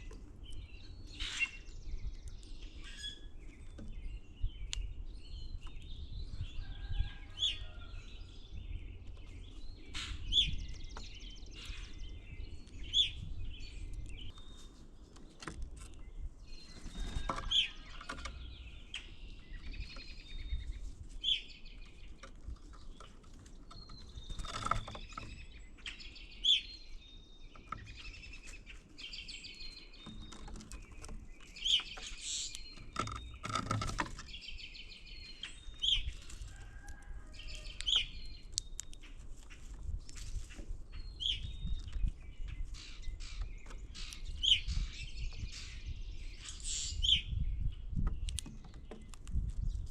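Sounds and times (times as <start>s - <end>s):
wild birds chirping: 0.0s - 49.9s.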